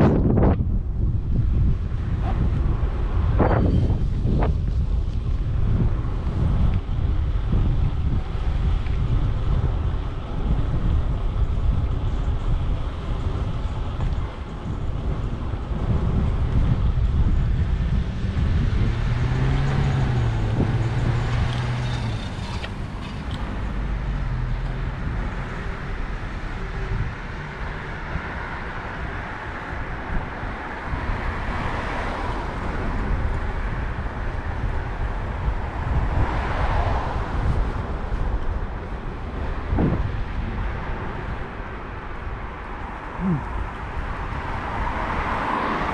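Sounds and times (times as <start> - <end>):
street traffic: 0.0 - 45.9
wind rumbling on microphone: 0.0 - 45.9
vehicle engine humming: 0.1 - 45.9.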